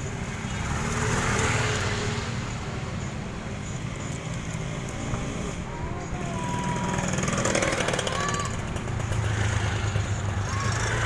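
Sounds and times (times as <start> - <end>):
bus engine: 0.0 - 11.0
road noise: 0.0 - 11.0.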